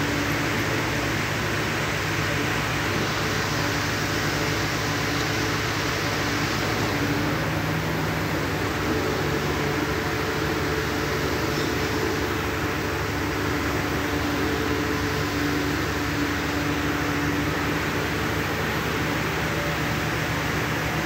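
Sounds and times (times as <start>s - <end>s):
low machine hum: 0.0s - 21.0s
machine hiss: 0.0s - 21.0s.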